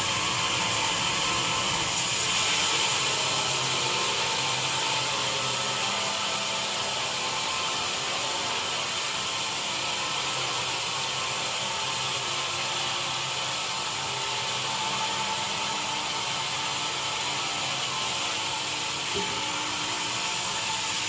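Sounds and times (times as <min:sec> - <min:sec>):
woodworking machinery whirring: 0:00.0 - 0:21.0.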